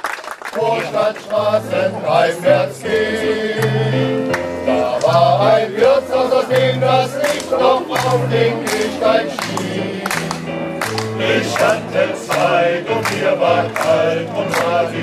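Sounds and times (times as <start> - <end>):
electric keyboard bass notes: 0.6 - 15.0
men's choir singing: 0.6 - 15.0.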